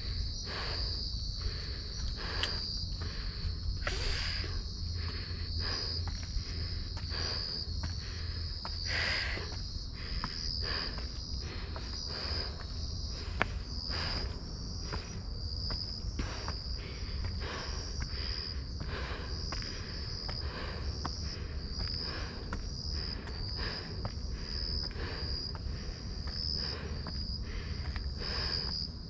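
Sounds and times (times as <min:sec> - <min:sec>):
crickets chirring: 0:00.0 - 0:29.0
footsteps on path and steps: 0:00.0 - 0:29.0.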